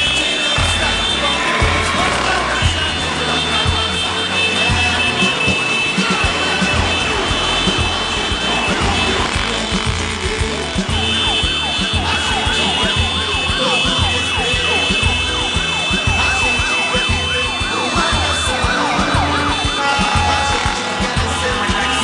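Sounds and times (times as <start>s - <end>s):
music with beat and bass: 0.0s - 22.0s
siren yelping: 0.8s - 22.0s.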